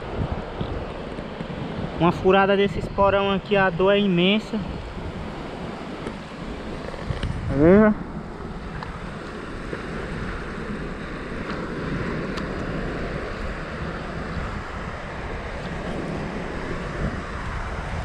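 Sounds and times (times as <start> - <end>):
surf washing over sand: 0.0 - 18.0
wind buffeting microphone: 0.0 - 18.0.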